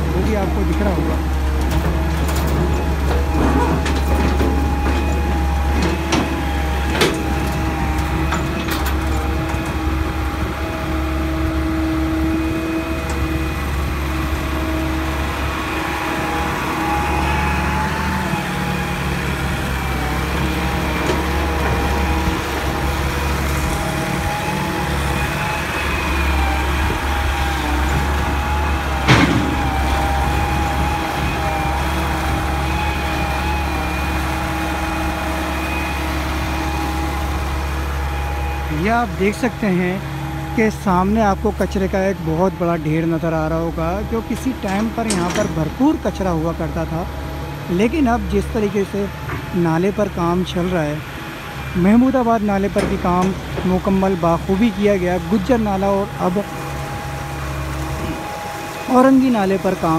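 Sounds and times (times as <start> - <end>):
excavator diesel engine running: 0.0 - 59.9
whining tones: 0.0 - 59.9.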